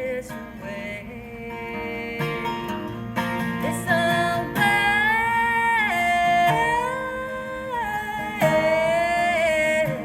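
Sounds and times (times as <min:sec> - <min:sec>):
acoustic guitar: 0:00.0 - 0:10.0
woman singing: 0:00.0 - 0:10.0.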